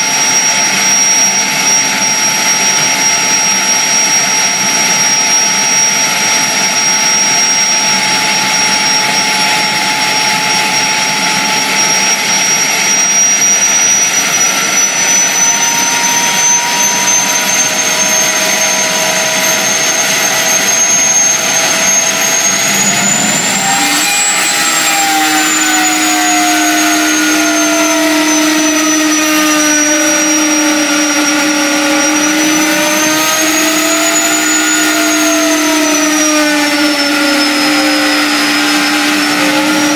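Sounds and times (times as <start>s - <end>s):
jet engine turbine whine: 0.0s - 39.9s
steady lower hum: 6.0s - 39.9s.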